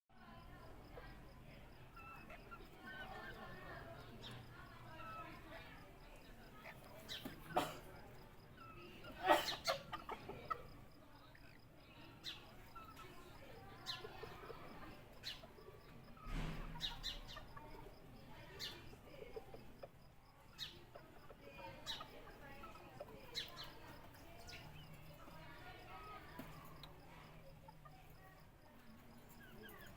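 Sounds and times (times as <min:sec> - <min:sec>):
fowl clucking and chirping: 0:00.8 - 0:29.9.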